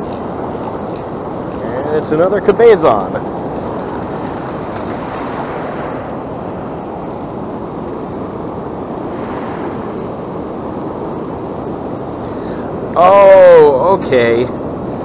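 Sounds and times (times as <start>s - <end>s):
ocean surf washing: 0.0s - 15.0s
wind on microphone: 0.0s - 15.0s.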